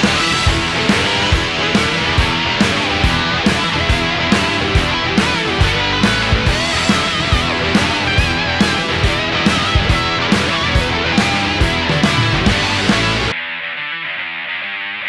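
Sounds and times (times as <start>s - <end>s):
steady drum beat: 0.0s - 13.3s
distorted electric guitar: 0.0s - 15.0s.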